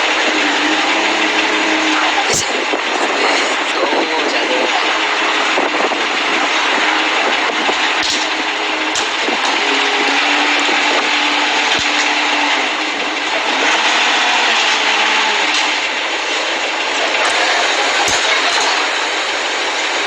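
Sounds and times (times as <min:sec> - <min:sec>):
steady machinery noise: 0:00.0 - 0:20.0.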